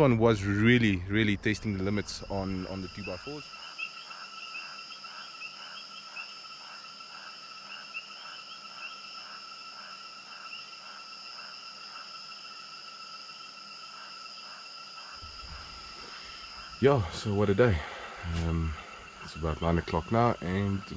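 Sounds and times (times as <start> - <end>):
crickets trilling: 0.0 - 20.9.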